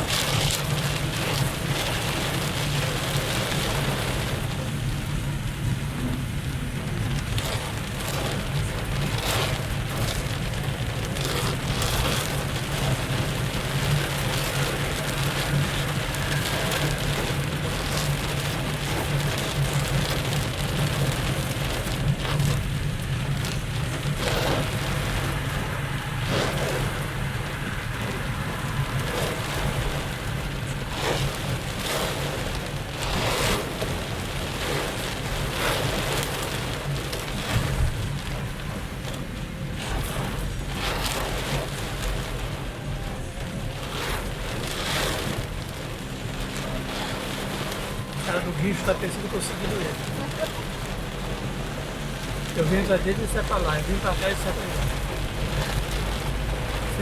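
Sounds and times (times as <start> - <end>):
heavy rain on car: 0.0 - 57.0
road and engine rumble: 0.0 - 57.0.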